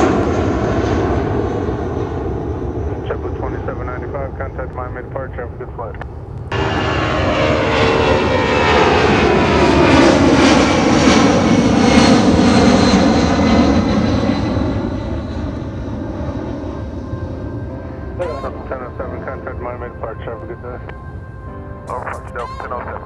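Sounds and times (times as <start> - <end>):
jet engines on takeoff: 0.0 - 23.0.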